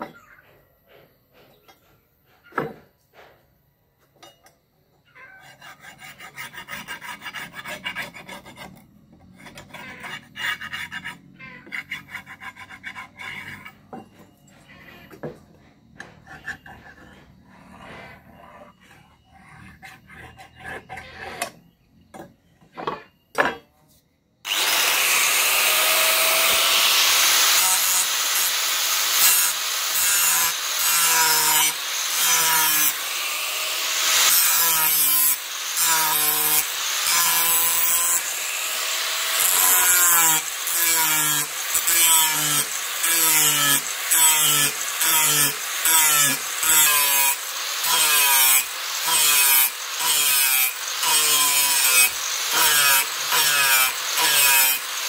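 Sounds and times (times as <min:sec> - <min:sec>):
steel grinding rasp: 0:05.2 - 0:13.9, 0:14.5 - 0:21.8, 0:24.5 - 0:55.0.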